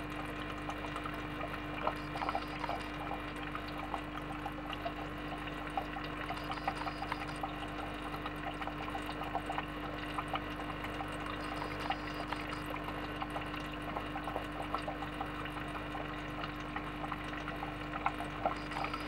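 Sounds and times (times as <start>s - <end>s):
water trickling and bubbling: 0.0s - 19.0s.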